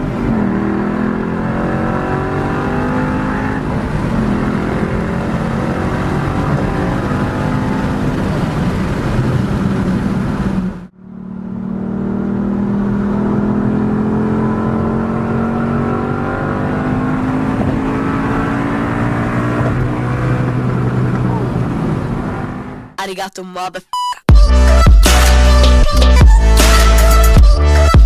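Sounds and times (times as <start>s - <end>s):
engine droning with rising revs: 0.0s - 23.0s.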